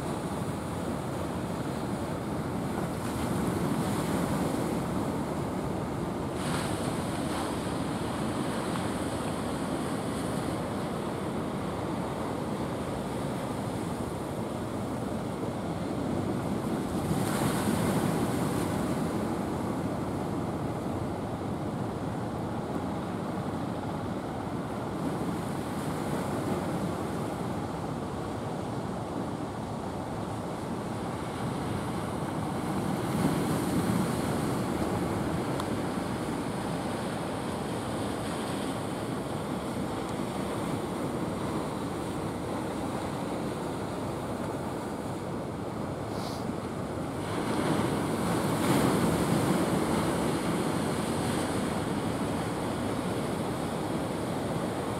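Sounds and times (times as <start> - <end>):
ocean waves breaking on beach: 0.0 - 54.9.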